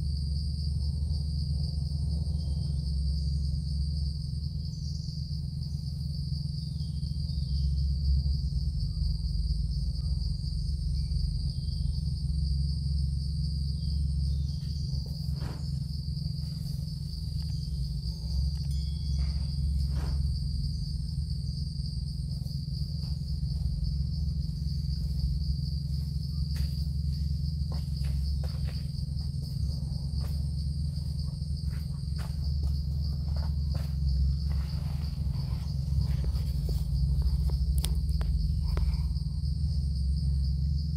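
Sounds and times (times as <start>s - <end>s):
insects buzzing: 0.0s - 40.9s
loud low rumble: 5.4s - 40.9s.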